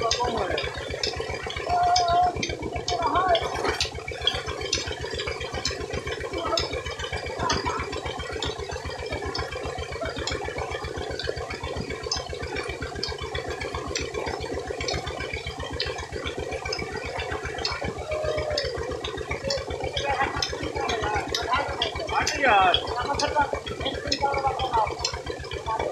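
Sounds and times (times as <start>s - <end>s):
pump engine thumping: 0.0s - 25.9s
water gushing and splashing: 0.0s - 25.9s.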